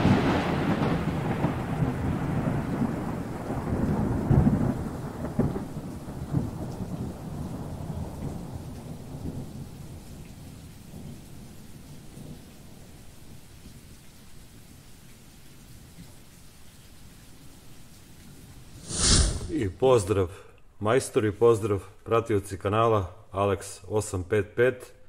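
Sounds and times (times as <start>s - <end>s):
steady rain: 0.0s - 24.2s.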